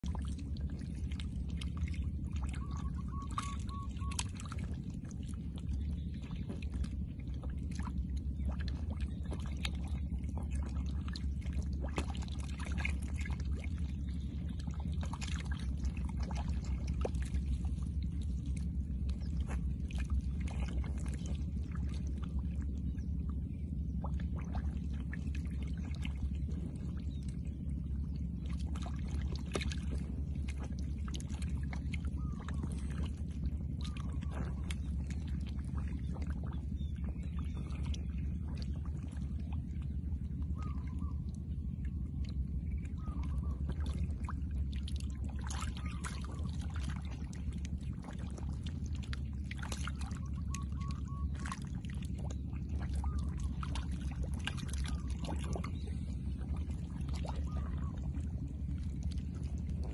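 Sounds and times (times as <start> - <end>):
fish splashing in muddy water: 0.0 - 59.9
steady low rumble: 0.0 - 59.9.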